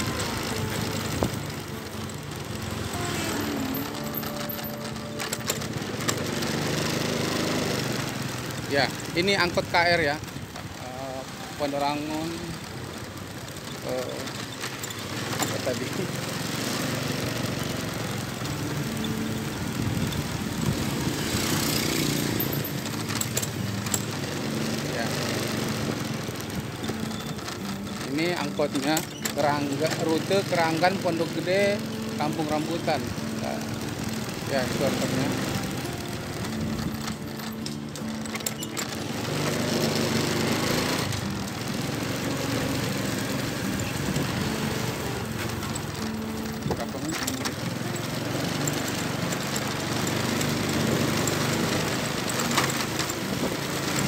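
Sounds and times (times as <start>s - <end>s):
motorbike passing close: 0.0s - 54.0s
small motorcycle engine running: 0.0s - 54.0s.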